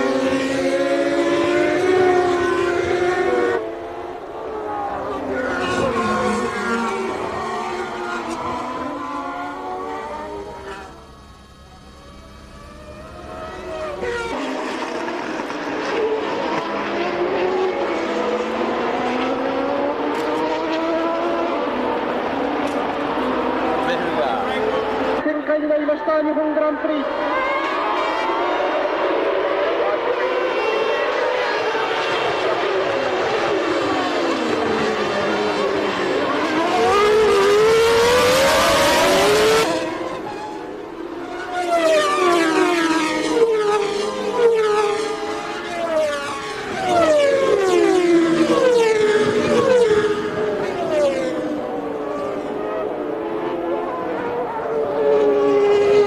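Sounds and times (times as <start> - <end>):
racing car engines at high revs: 0.0 - 56.0.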